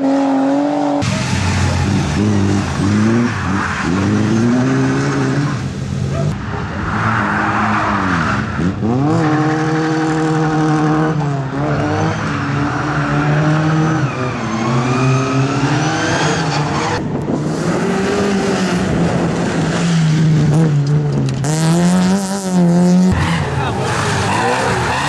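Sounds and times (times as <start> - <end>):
car engine revving hard: 0.0 - 6.4, 7.6 - 25.0.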